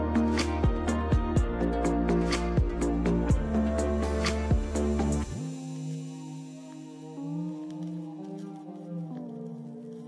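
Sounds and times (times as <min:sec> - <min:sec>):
background music with chords: 0:00.0 - 0:10.0.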